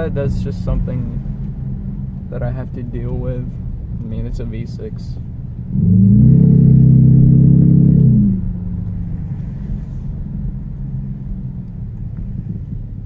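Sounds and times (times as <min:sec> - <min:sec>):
car exhaust drone from inside cabin: 0:00.0 - 0:13.0.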